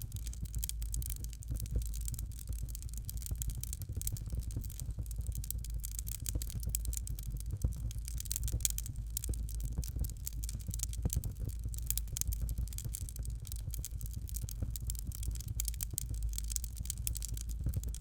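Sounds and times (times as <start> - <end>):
fire crackling in a fireplace: 0.0 - 18.0.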